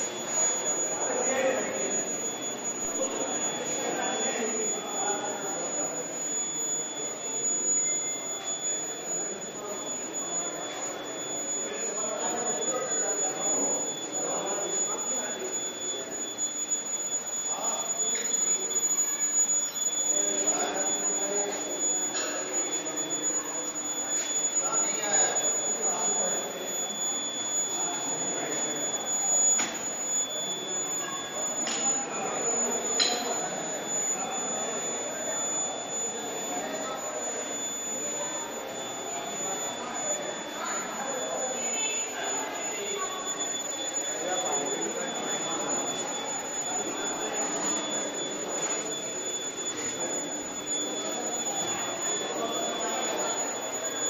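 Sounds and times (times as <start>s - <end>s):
induction furnace whine: 0.0s - 54.0s.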